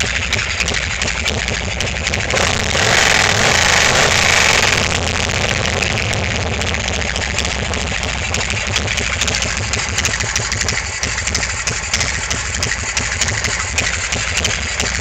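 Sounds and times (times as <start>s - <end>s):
motorcycle engine idling: 2.0s - 15.0s.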